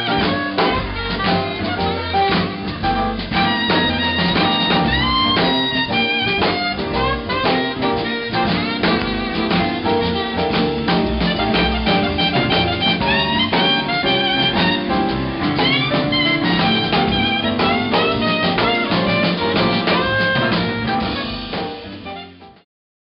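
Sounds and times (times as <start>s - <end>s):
drum kit: 0.0s - 22.6s
soprano saxophone melody: 0.0s - 22.6s
upright bass: 0.0s - 22.6s.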